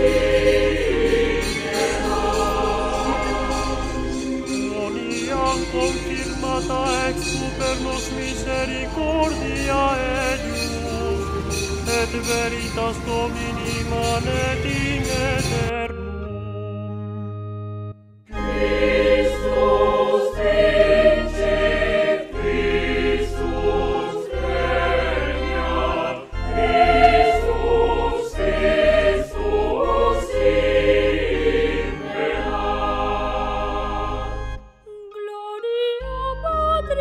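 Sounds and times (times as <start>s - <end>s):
choir singing a hymn: 0.0s - 15.7s, 18.3s - 34.7s
instrumental backing: 0.0s - 37.0s.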